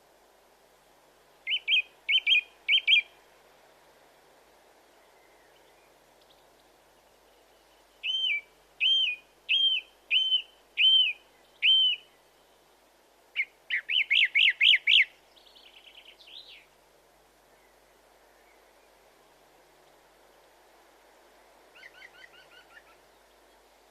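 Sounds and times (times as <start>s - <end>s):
songbird singing: 1.3s - 3.3s, 4.8s - 23.9s.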